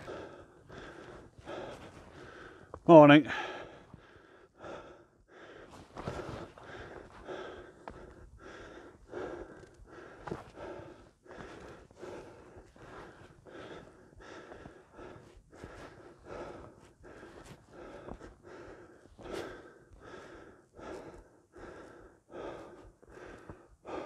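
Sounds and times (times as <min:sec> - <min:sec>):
person breathing heavily: 0:00.0 - 0:24.0.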